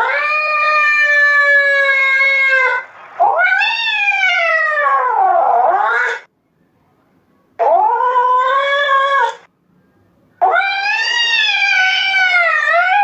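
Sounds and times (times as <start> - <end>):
cat meowing: 0.0 - 6.3, 7.6 - 9.5, 10.4 - 13.0.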